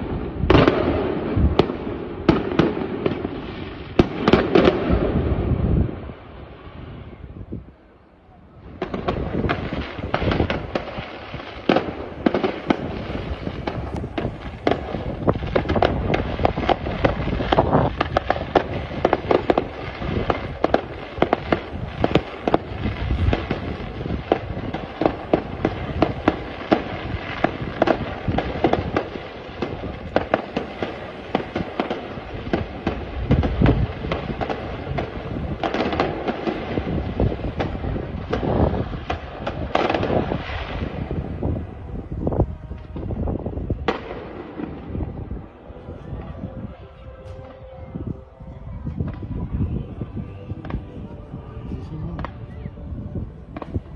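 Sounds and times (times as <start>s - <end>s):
deep fireworks booms: 0.0s - 53.9s
fireworks bangs and crackles: 0.0s - 53.9s.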